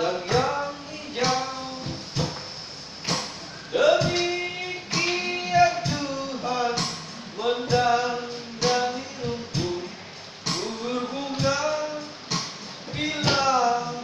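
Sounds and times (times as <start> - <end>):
keyboard accompaniment: 0.0 - 14.0
percussive beat: 0.0 - 14.0.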